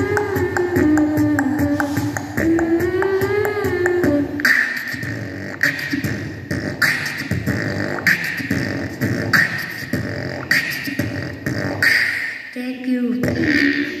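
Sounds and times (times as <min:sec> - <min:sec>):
child beatboxing through loudspeakers: 0:00.0 - 0:14.0.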